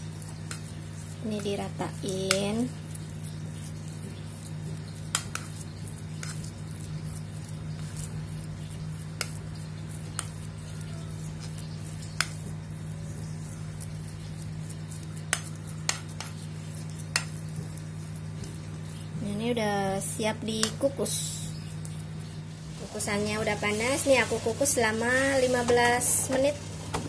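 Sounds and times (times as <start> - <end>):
steady low hum: 0.0 - 27.0
spoon pressing soft mixture: 0.1 - 19.2, 19.9 - 22.5.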